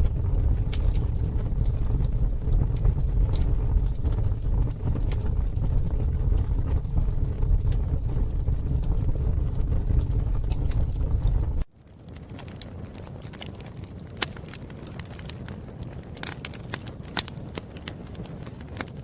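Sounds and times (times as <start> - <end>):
crackles and pops of burning wood: 0.0 - 19.0
fire low rumble: 0.0 - 19.0.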